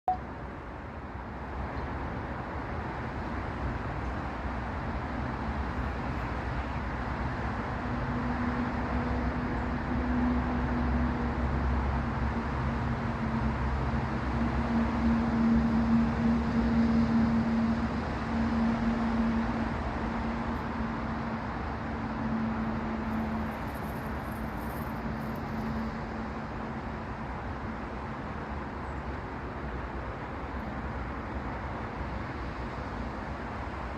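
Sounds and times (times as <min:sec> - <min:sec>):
traffic noise: 0:00.0 - 0:33.9
low engine hum: 0:00.1 - 0:33.9.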